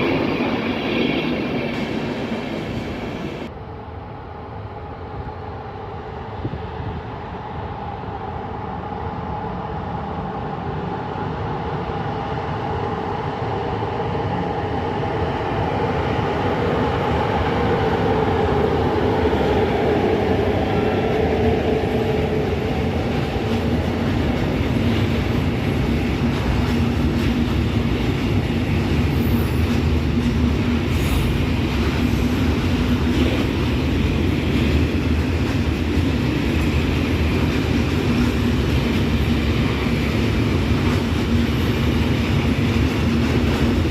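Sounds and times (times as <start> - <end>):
train rumble: 0.0 - 43.9
train whine: 0.0 - 43.9.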